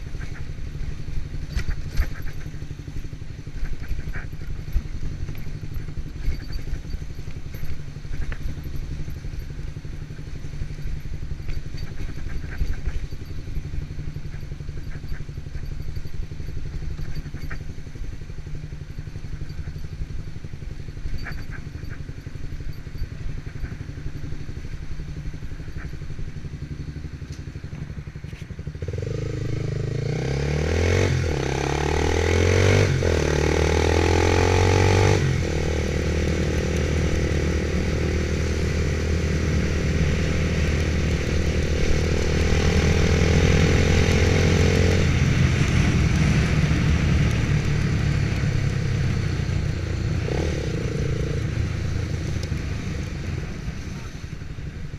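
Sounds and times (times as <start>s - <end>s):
motorcycle engine accelerating: 0.0s - 54.9s
road and wind noise: 0.0s - 54.9s.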